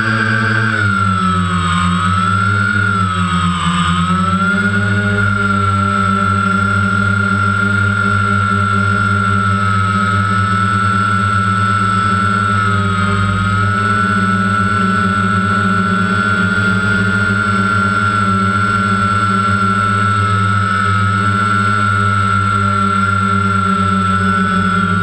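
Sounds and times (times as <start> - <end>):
rc helicopter motors whining: 0.0 - 25.0.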